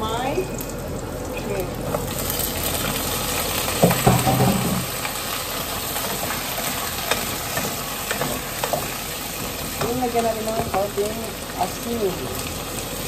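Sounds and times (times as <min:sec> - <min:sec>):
shrimp sizzling in a pot: 0:00.0 - 0:13.0.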